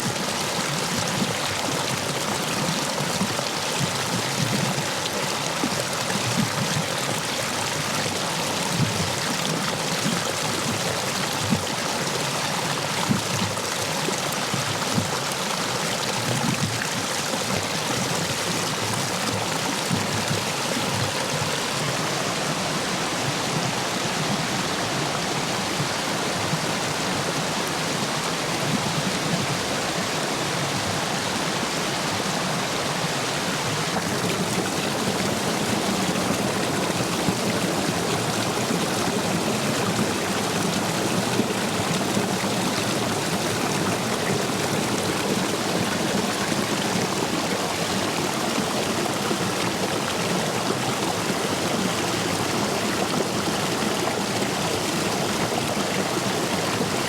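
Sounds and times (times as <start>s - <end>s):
stream water rushing over stones: 0.0s - 57.0s.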